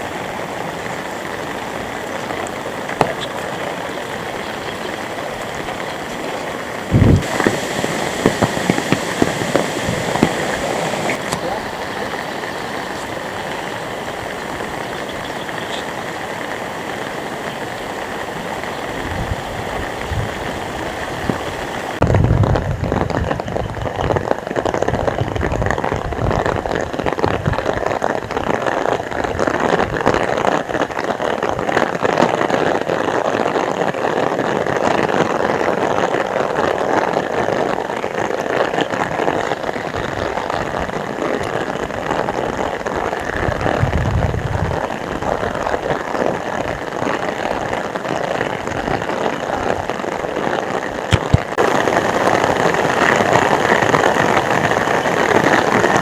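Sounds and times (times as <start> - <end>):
heavy rain spattering on surfaces: 0.0 - 56.0.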